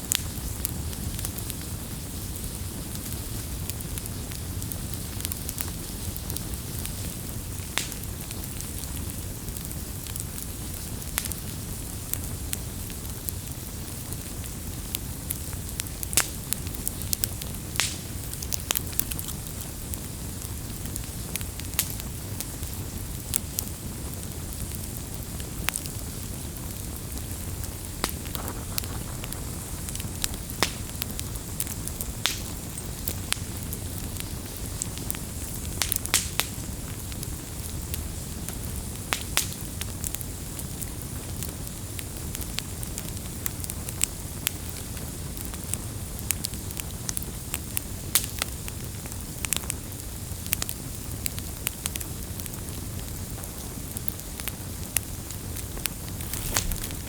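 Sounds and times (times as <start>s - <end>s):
campfire crackling and popping: 0.0s - 57.0s
low rumble of fire: 0.0s - 57.0s.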